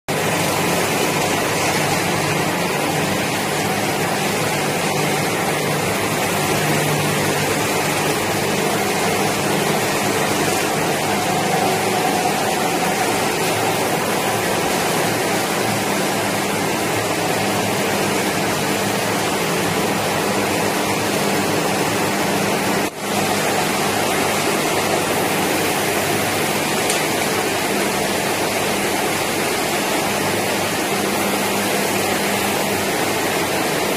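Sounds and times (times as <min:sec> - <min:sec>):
low machine hum: 0:00.1 - 0:33.9
production line machinery rushing: 0:00.1 - 0:33.9.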